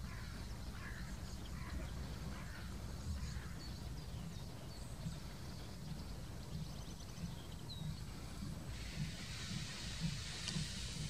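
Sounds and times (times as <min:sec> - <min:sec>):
distant steam locomotive chuffing: 0:00.0 - 0:11.0
faint birdsong: 0:00.0 - 0:11.0.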